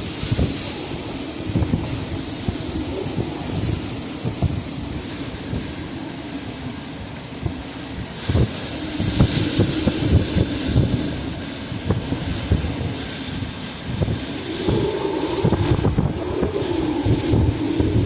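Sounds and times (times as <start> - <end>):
hurricane wind rushing: 0.0 - 18.0
wind gusts buffeting microphone: 0.0 - 18.0.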